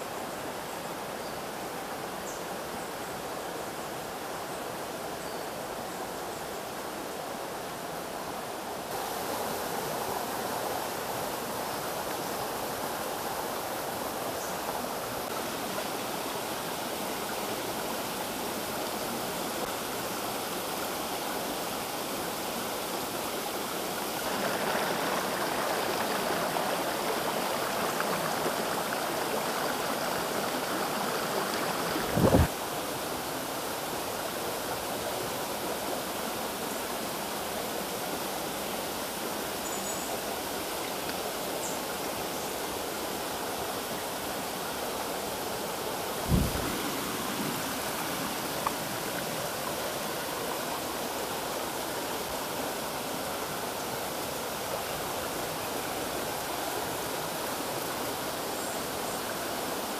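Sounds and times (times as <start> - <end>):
stream running over stones: 6.6 - 59.9.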